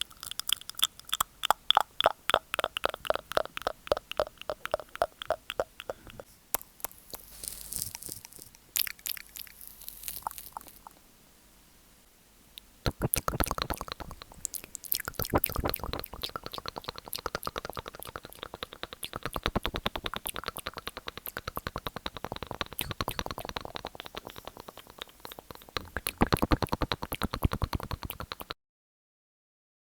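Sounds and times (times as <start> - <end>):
wet mouth clicks: 0.0 - 11.0, 12.6 - 28.6.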